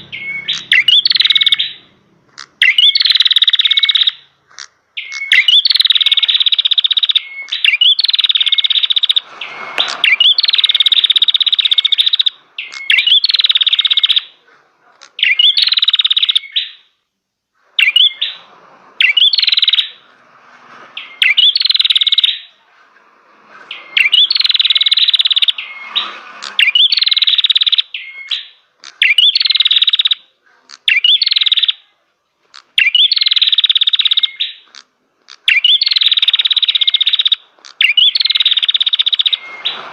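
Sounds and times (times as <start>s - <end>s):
songbird buzzy rattling song: 0.0s - 17.0s, 17.6s - 39.9s.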